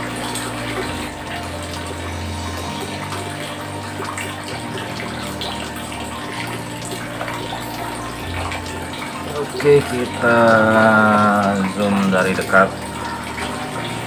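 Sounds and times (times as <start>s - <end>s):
aquarium water splashing: 0.0s - 14.0s
low pump hum: 0.0s - 14.0s.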